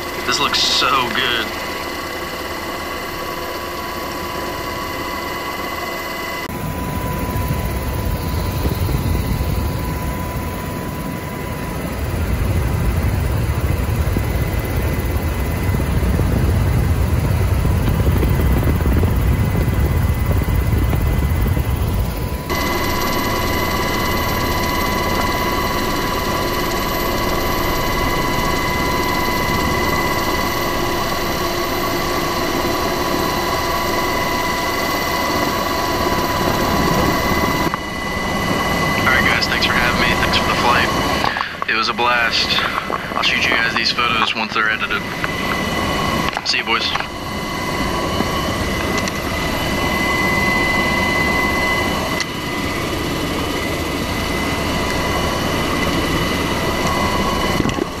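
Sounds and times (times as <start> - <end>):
helicopter rotor and turbine whine: 0.0 - 58.0.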